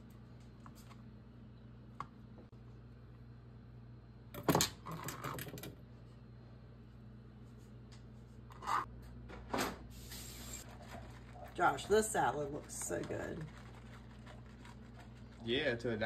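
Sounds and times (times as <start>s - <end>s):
steady low hum: 0.0s - 4.5s, 5.6s - 16.0s.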